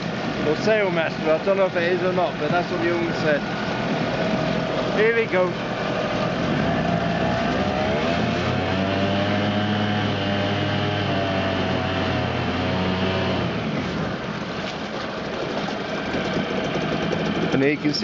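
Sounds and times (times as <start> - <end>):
outboard engine running: 0.0 - 18.0
propeller churning water: 0.0 - 18.0.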